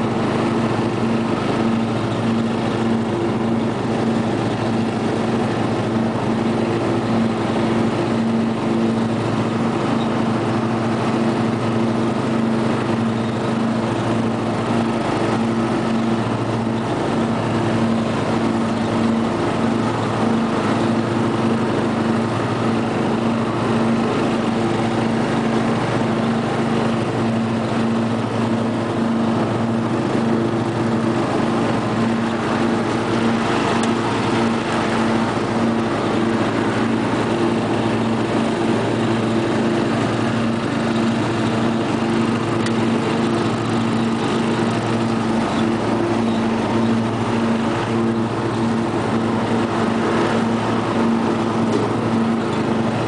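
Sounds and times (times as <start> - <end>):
lawn tractor engine running: 0.0 - 53.0.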